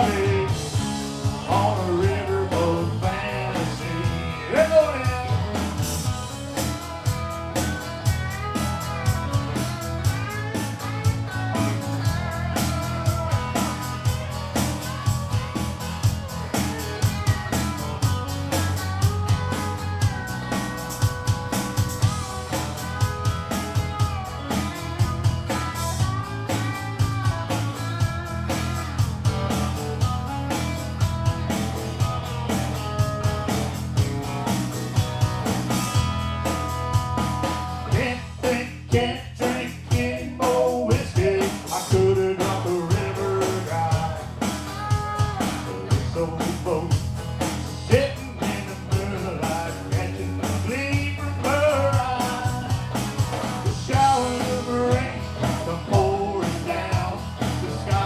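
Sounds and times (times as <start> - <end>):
bending lead guitar: 0.0 - 58.0
drum beat: 0.0 - 58.0
steady bass: 0.0 - 58.0.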